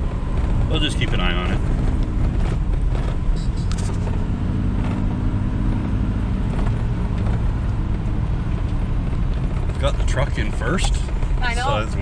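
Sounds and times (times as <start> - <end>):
engine and tyre hum: 0.0 - 12.0.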